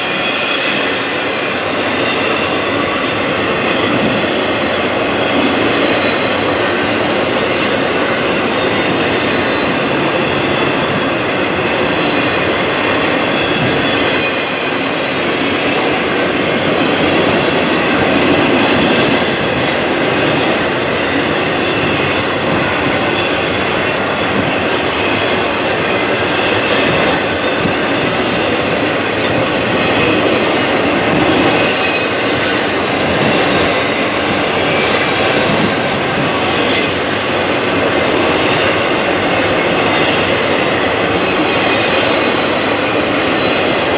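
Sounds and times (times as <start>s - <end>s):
train wheels clattering on track: 0.0s - 43.9s.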